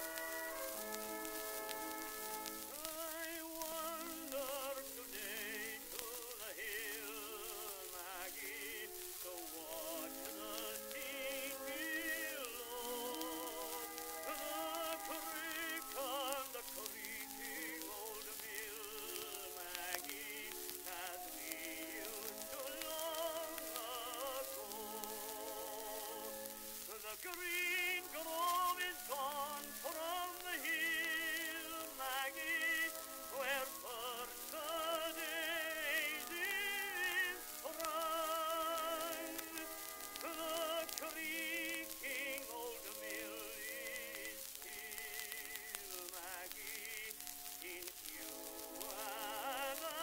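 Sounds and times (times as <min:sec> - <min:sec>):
old instrumental music recording: 0:00.0 - 0:50.0
surface hiss: 0:00.0 - 0:50.0.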